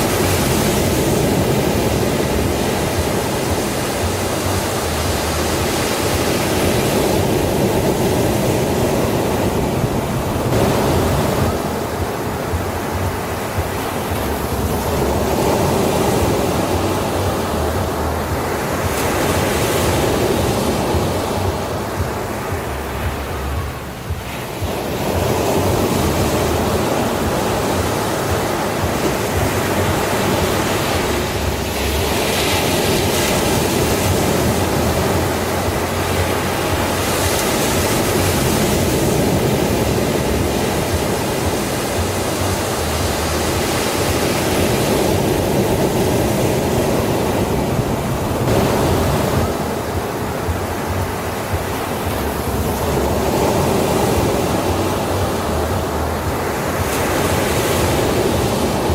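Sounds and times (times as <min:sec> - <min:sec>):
sea waves washing onto beach: 0:00.0 - 0:58.9.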